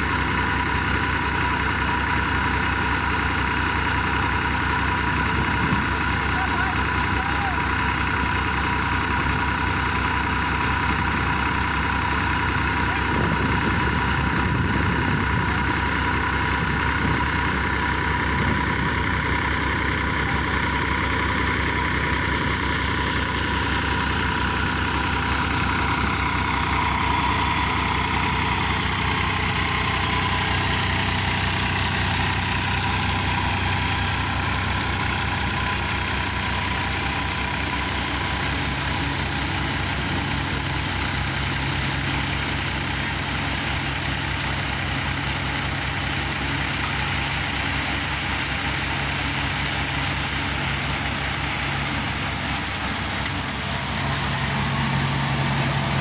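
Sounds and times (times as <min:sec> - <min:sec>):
diesel tractor engine running: 0:00.0 - 0:56.0
thresher high whine: 0:08.4 - 0:56.0.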